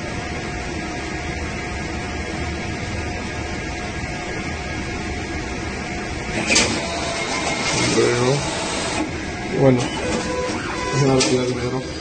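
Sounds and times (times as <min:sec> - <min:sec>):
atm hum and hiss: 0:00.0 - 0:12.0.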